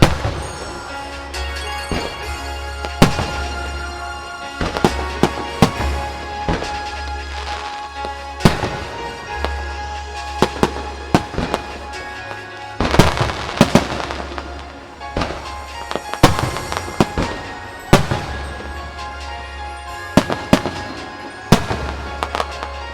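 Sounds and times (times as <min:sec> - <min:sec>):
background music: 0:00.0 - 0:22.9
firework crackling: 0:00.0 - 0:22.9
firework shells bursting: 0:00.0 - 0:22.9.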